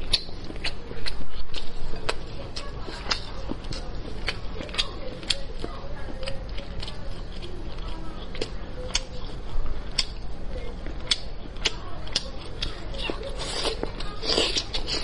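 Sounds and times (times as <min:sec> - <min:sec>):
wet mouth clicks and chewing: 0:00.0 - 0:15.0.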